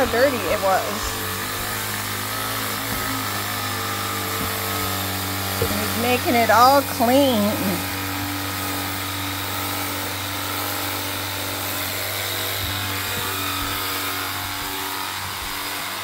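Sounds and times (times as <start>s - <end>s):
pressure washer pump hum: 0.0s - 16.0s
water jet hissing: 0.0s - 16.0s.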